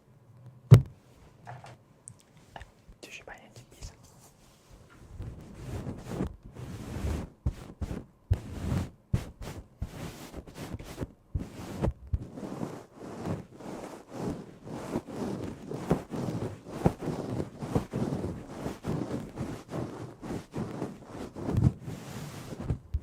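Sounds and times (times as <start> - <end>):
rustling: 3.9 - 23.0.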